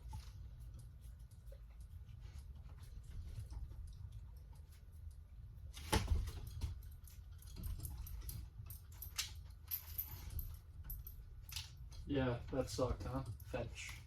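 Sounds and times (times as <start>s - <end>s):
dog rustling and clicking: 0.0s - 14.0s.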